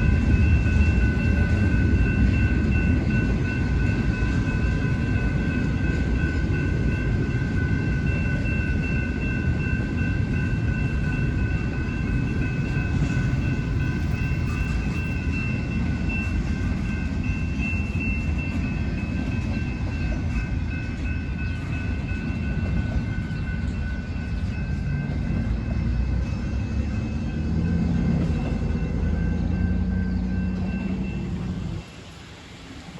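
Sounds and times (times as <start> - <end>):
freight train rumbling on rails: 0.0 - 32.9.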